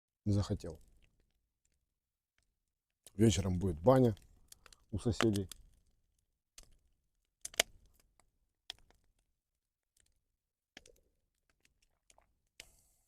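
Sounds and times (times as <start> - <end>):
bonfire crackling and popping: 0.3 - 12.9.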